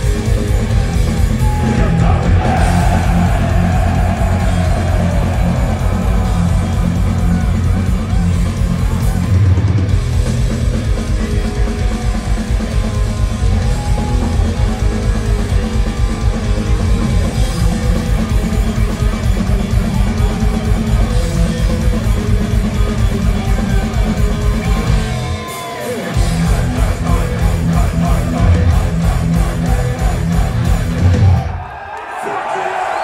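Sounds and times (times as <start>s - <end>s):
distorted electric guitars: 0.0s - 31.5s
drum kit: 0.0s - 31.6s
crowd cheering: 0.0s - 33.0s.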